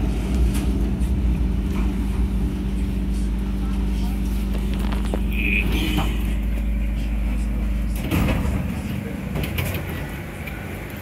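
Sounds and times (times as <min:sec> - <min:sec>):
train doors sliding open: 0:00.0 - 0:02.9, 0:04.2 - 0:06.7, 0:07.3 - 0:11.0.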